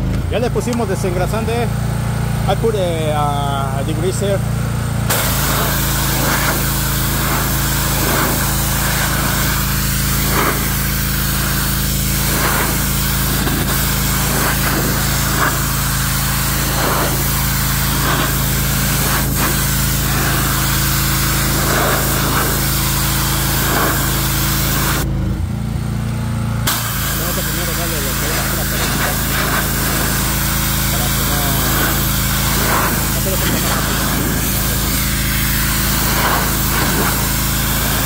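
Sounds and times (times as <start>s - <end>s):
pressure washer engine drone: 0.0s - 38.0s
spray wand hissing on concrete: 5.1s - 25.1s, 26.7s - 38.0s.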